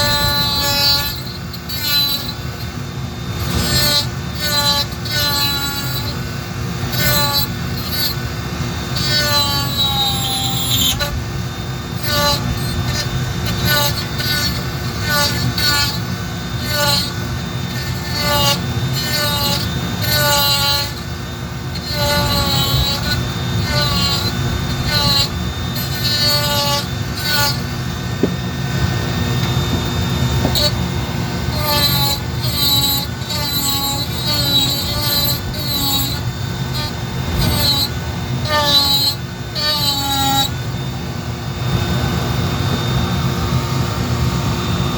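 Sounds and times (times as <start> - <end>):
rotary tool grinding wood: 0.0 - 43.2.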